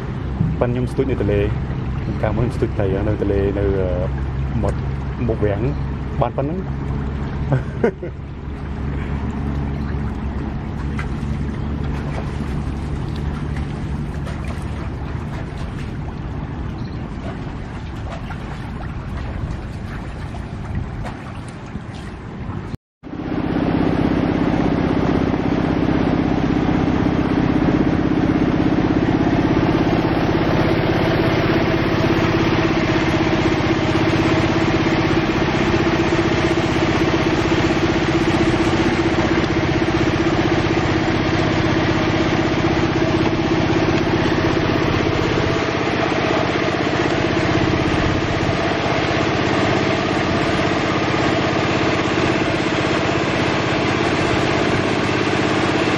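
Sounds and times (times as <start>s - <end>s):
small engine running steadily: 0.0s - 55.9s.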